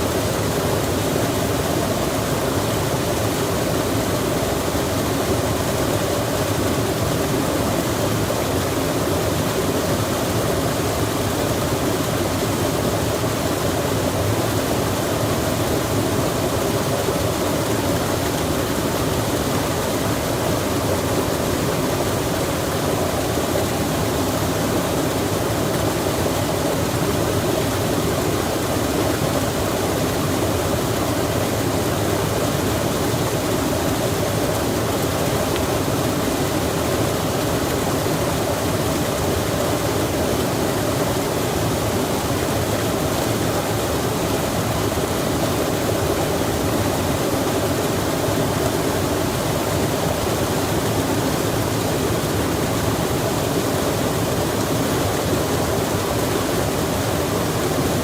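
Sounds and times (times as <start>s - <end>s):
rain falling: 0.0s - 58.0s
stream rushing: 0.0s - 58.0s.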